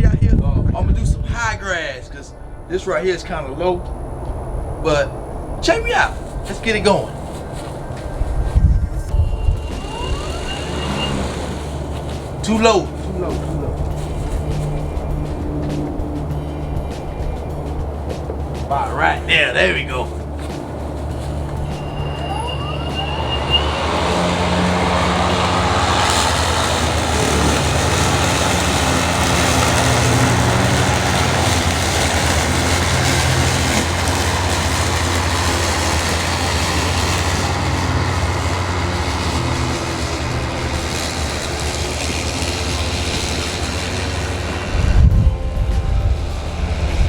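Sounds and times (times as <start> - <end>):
wind buffeting microphone: 0.0 - 21.8, 23.7 - 47.0
electric lawn mower cutting grass: 2.8 - 47.0.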